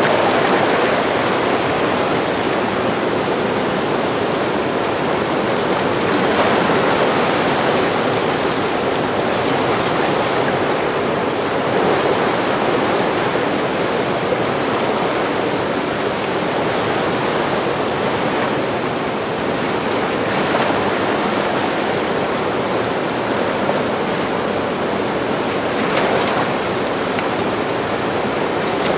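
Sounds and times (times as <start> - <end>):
rushing white water: 0.0 - 28.9.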